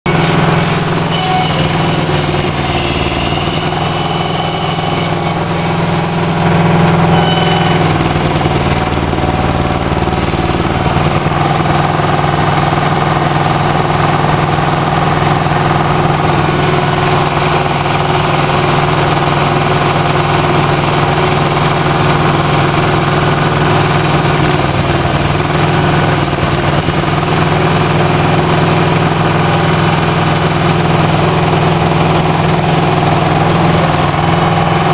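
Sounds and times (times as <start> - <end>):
engine droning: 0.1 - 34.9.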